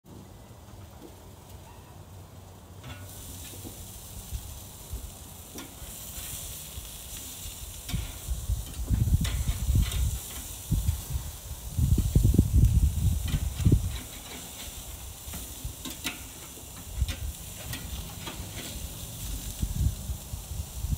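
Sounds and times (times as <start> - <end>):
patties sizzling on grill: 0.1 - 20.9.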